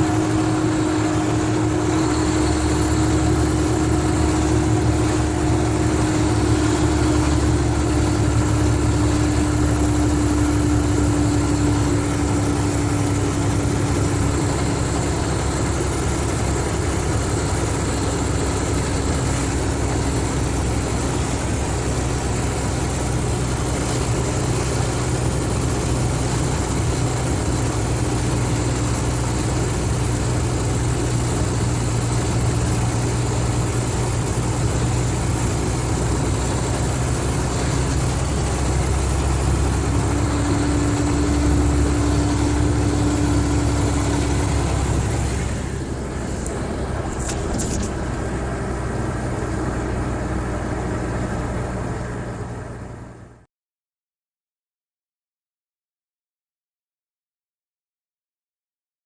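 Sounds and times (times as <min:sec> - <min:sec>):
steady hum: 0:00.0 - 0:52.5
diesel engine running at low revs: 0:00.0 - 0:53.5.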